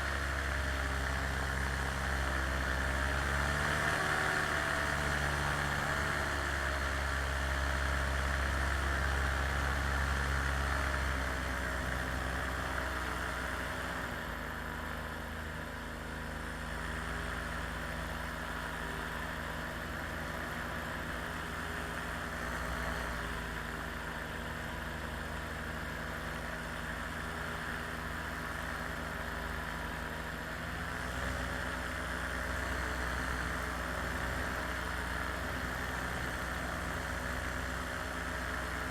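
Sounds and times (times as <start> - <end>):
small aircraft engine in flight: 0.0 - 38.9.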